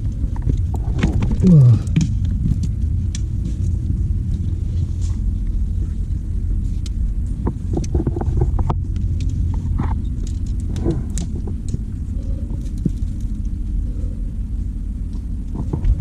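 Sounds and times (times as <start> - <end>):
scrapes and clicks: 0.0 - 14.2
wind buffeting microphone: 0.0 - 16.0.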